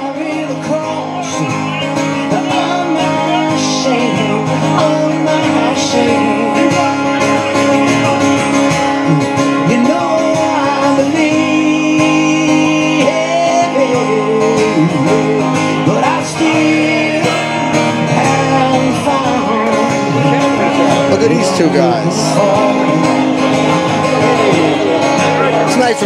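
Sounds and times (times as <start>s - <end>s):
man singing: 0.0s - 8.2s, 8.8s - 26.0s
acoustic guitar: 0.0s - 26.0s.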